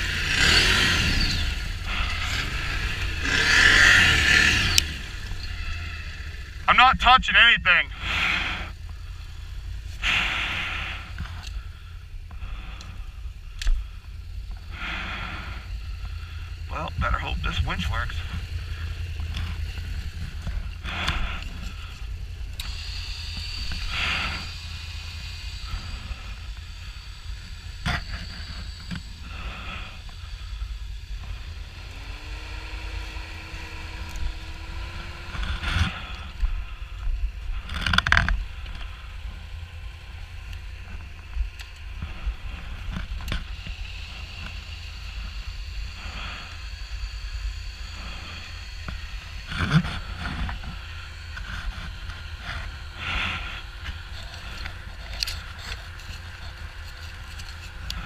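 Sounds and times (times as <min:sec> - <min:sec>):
atv engine running: 0:00.0 - 0:58.0
steady whine: 0:00.0 - 0:58.0.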